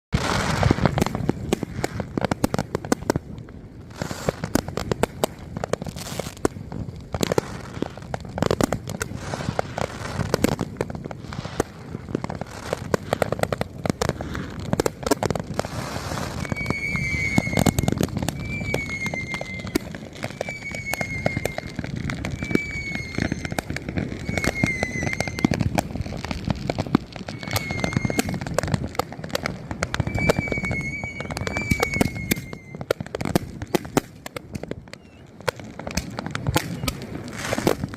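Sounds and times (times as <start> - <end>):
fireworks crackling and banging: 0.1 - 37.9.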